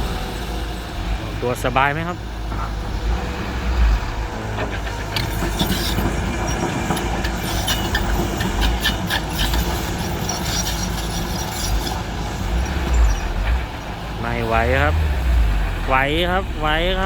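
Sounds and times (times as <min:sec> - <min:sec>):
metallic rattles and clanks: 0:00.0 - 0:16.8
heavy diesel engine under load: 0:00.0 - 0:17.0.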